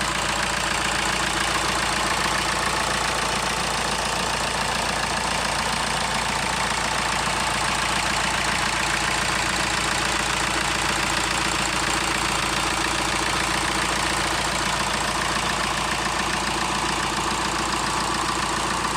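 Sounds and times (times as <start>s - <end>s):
van engine idling: 0.0s - 18.9s.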